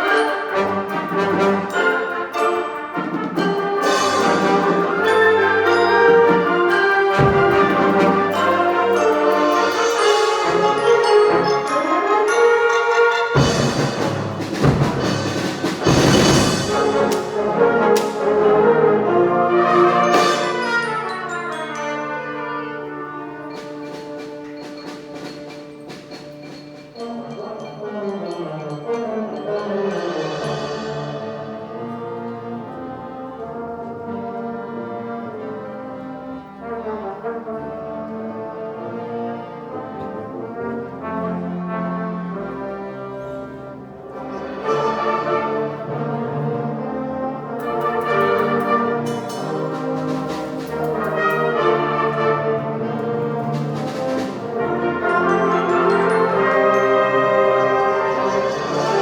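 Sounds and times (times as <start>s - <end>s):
sharp percussion strokes: 0.0s - 33.7s, 44.0s - 59.0s
wind band playing: 0.0s - 59.0s.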